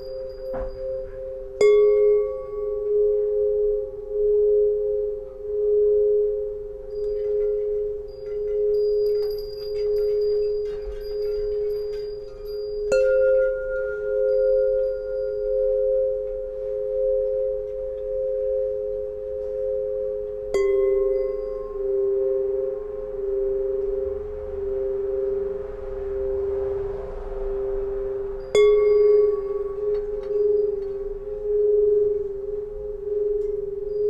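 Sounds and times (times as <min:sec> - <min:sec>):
tuning pipes ringing: 0:00.0 - 0:34.0.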